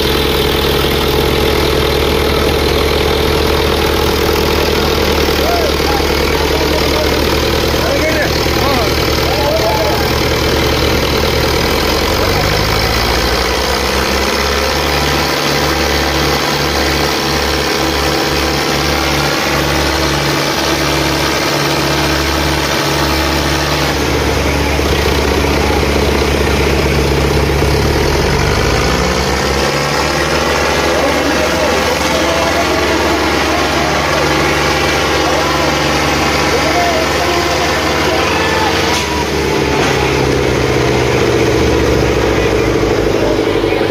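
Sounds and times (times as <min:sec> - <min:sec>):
diesel tractor engines under load: 0:00.0 - 0:43.9.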